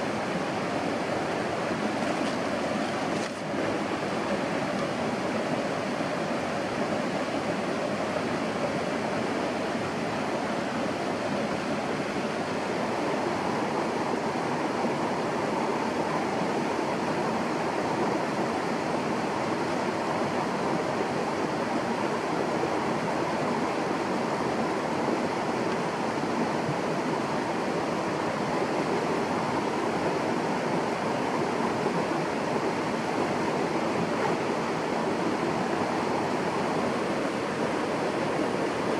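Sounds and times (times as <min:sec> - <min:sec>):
rush of water: 0:00.0 - 0:38.9.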